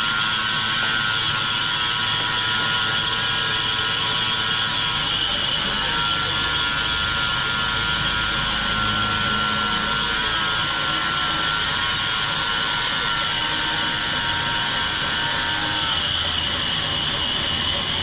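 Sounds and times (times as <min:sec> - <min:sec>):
band saw cutting log: 0:00.0 - 0:18.0.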